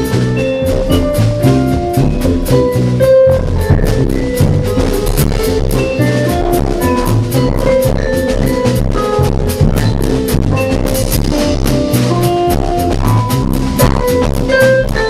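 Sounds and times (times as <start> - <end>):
drum kit with cymbal strokes: 0.0 - 15.0
live band music: 0.0 - 15.0.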